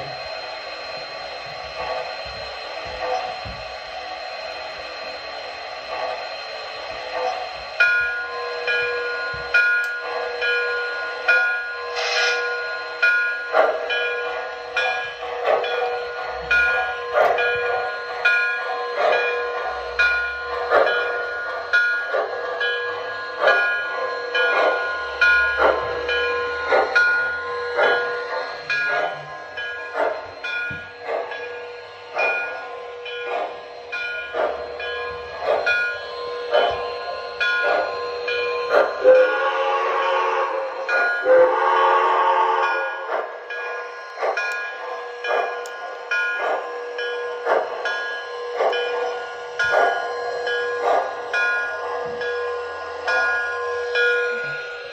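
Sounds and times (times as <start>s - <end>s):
locomotive bell ringing: 0.0s - 54.9s
model steam locomotive chuffing: 0.0s - 54.9s
steam hiss: 0.0s - 54.9s.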